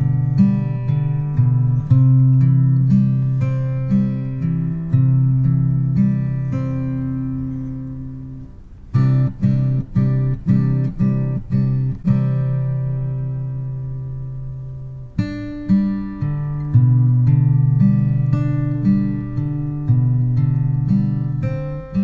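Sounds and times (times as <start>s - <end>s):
acoustic guitar plucked notes: 0.0s - 22.0s.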